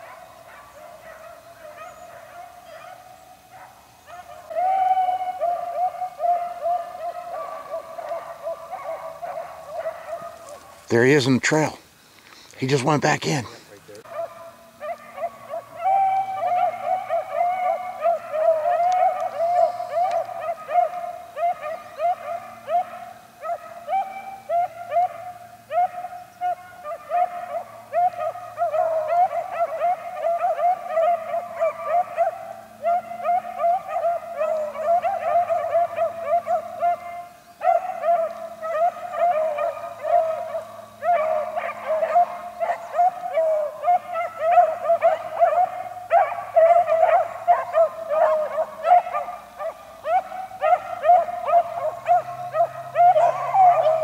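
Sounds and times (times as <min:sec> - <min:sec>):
hounds baying: 0:00.0 - 0:11.9, 0:12.6 - 0:54.0.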